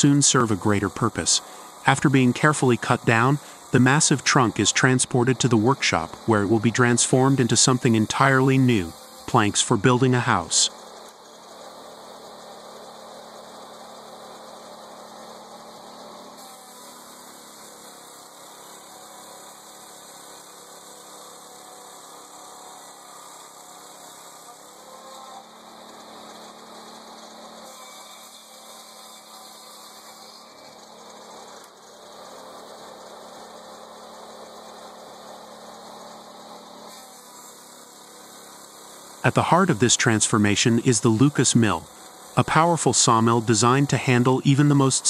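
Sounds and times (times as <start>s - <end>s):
mechanical hum with hiss: 0.0s - 45.0s.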